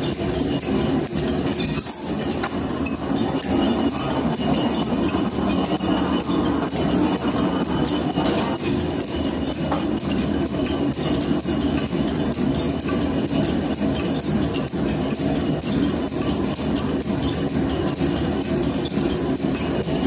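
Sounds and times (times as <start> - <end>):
metal planer running: 0.0 - 20.0.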